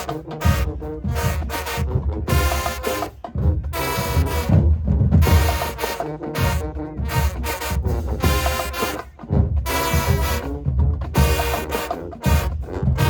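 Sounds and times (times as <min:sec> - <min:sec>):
brass horns: 0:00.0 - 0:13.0
heavy rhythmic drums: 0:00.0 - 0:13.0.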